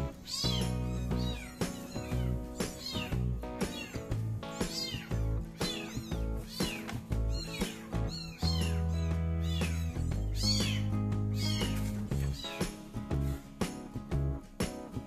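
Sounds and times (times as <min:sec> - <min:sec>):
background music with bass line: 0:00.0 - 0:15.0
kitten mewing: 0:00.1 - 0:12.7.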